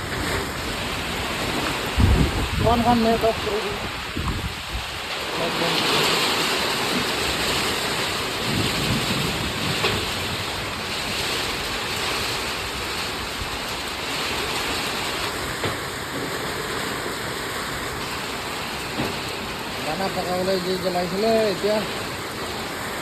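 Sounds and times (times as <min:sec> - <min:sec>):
heavy rain: 0:00.0 - 0:23.0
strong wind: 0:00.0 - 0:23.0.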